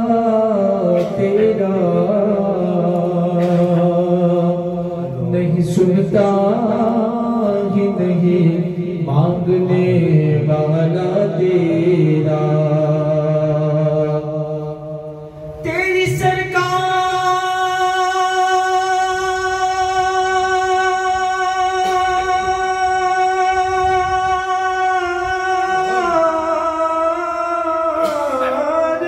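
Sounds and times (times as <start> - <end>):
man singing into a microphone: 0.0 - 29.0.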